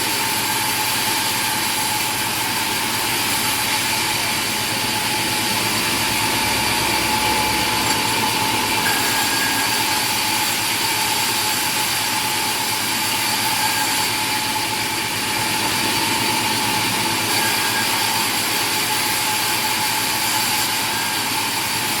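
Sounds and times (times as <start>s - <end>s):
machine running with whine: 0.0s - 22.0s.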